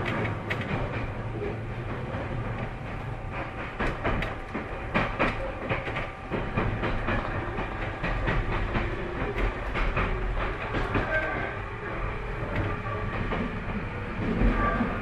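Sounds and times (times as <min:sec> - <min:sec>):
train interior rumble: 0:00.0 - 0:15.0
wheels clicking over rail joints: 0:00.0 - 0:15.0.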